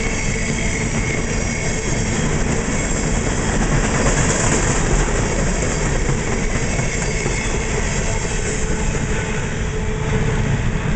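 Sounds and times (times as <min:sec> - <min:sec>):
train wheels running on rails: 0:00.0 - 0:10.9.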